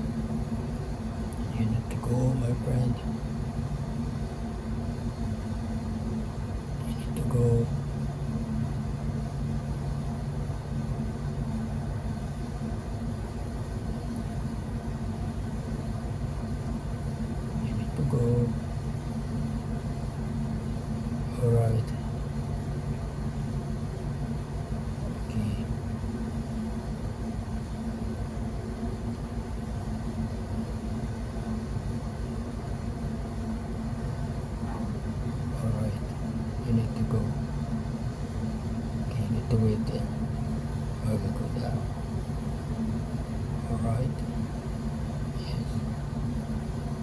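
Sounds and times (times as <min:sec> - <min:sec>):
ship engine drone: 0:00.0 - 0:47.0.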